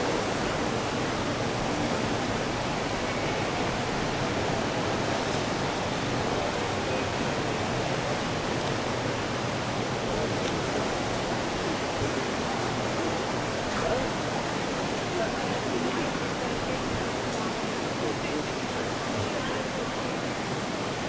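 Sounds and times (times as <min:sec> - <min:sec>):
fast-flowing river water: 0:00.0 - 0:21.0.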